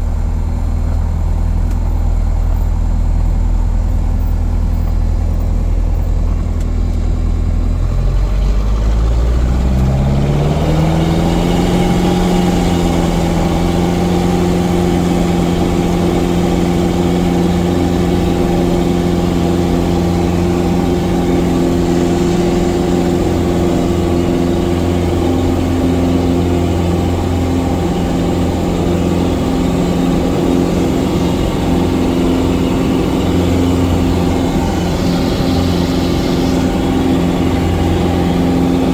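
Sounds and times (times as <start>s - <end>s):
propeller plane engine running: 0.0s - 38.9s.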